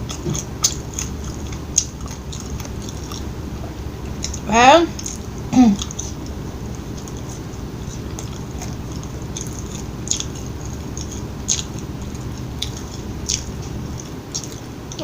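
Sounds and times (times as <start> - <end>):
close chewing food: 0.0 - 15.0
wet clicks of chewing: 0.0 - 15.0.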